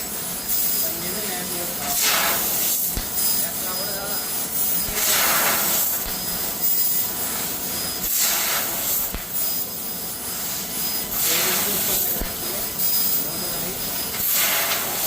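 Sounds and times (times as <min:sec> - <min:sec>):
faint high whine: 0:00.0 - 0:15.0
laser cutting machine hissing: 0:00.0 - 0:15.0.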